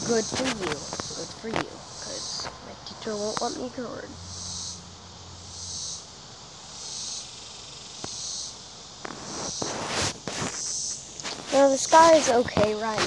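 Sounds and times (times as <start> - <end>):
insect calling in high pulses: 0.0 - 13.0.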